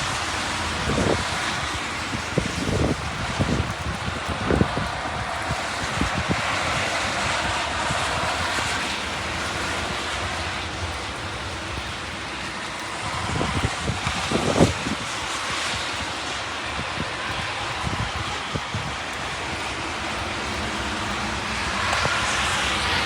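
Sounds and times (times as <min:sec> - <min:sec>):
heavy rain and wind hiss: 0:00.0 - 0:23.0
wind gusts buffeting microphone: 0:00.0 - 0:23.0.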